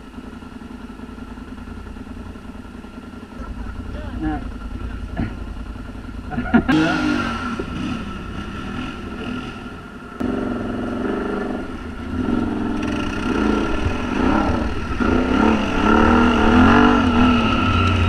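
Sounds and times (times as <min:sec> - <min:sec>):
quad engine revving: 0:03.3 - 0:18.0.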